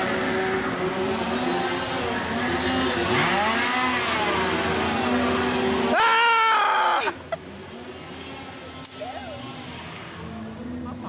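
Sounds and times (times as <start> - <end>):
chainsaw engine revving: 0.0 - 10.4.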